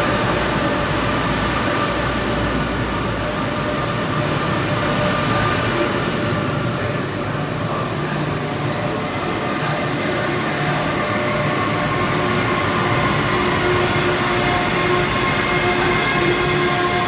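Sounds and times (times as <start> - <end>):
electric train whine: 0.0 - 17.0
train wheels rumbling on rail: 0.0 - 17.0.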